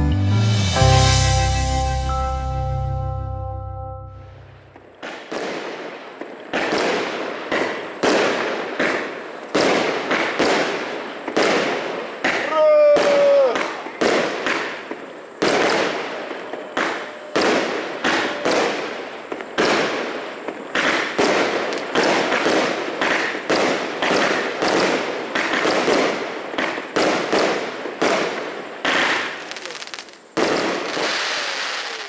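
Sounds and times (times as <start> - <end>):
fireworks bursting: 4.5 - 32.0.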